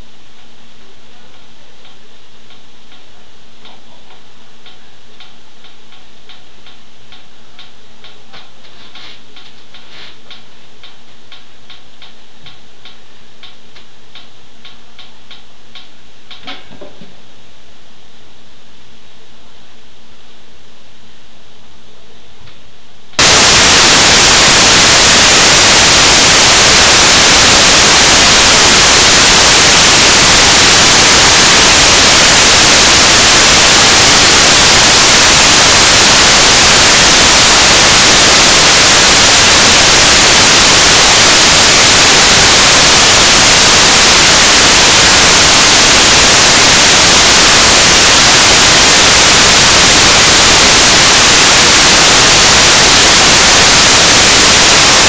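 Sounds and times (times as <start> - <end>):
static hiss: 0.0 - 21.4, 22.9 - 55.0.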